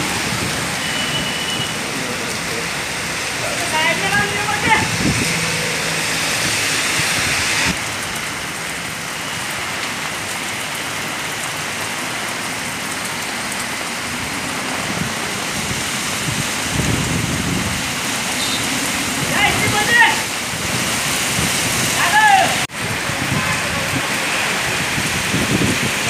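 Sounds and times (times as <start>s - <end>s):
heavy rain on wet road: 0.0s - 26.0s
vehicle passing on wet road: 0.0s - 26.0s.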